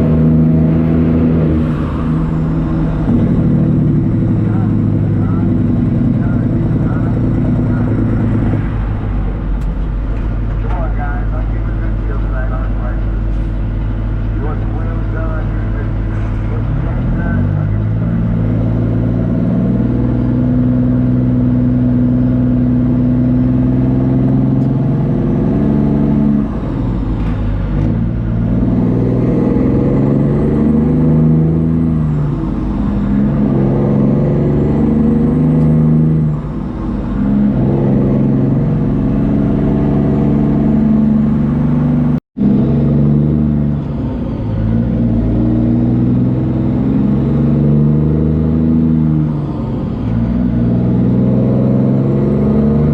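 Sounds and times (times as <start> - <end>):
diesel truck engine pulling: 0.0 - 52.9.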